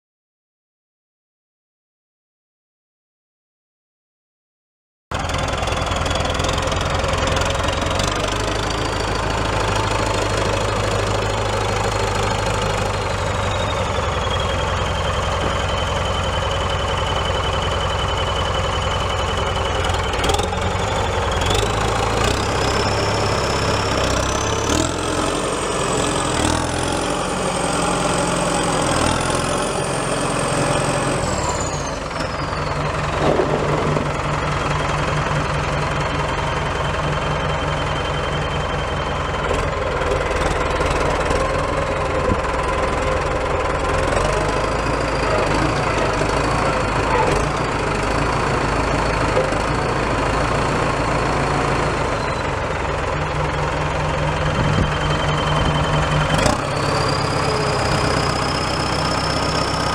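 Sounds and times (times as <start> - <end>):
tractor diesel engine running: 5.1 - 59.9.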